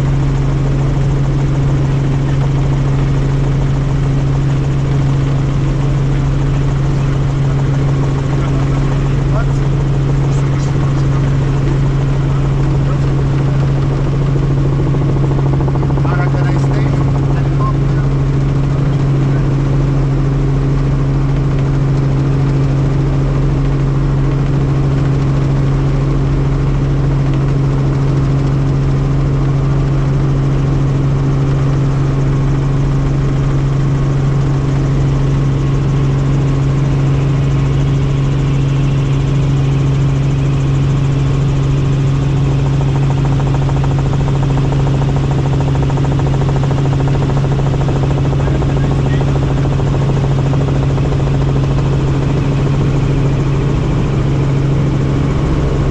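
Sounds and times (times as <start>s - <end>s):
helicopter rotor drone: 0.0s - 55.9s.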